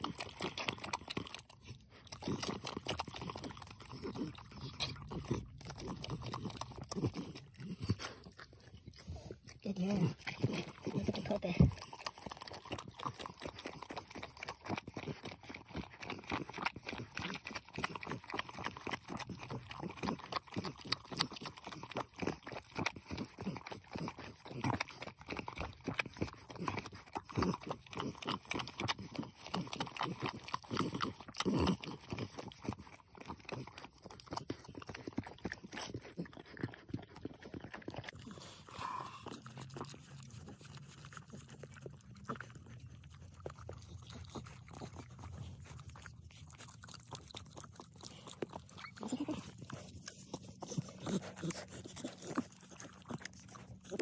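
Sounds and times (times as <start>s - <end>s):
dog licking puppies: 0.0s - 54.0s.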